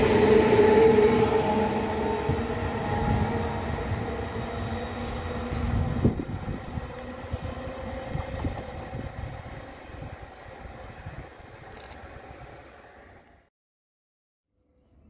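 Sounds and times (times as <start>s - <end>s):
train wheels rumbling on rails: 0.0s - 13.2s.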